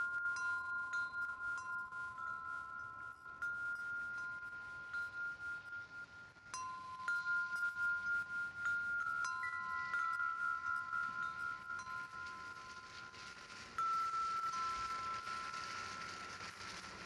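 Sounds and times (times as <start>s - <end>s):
high ringing chime tones: 0.0s - 17.0s.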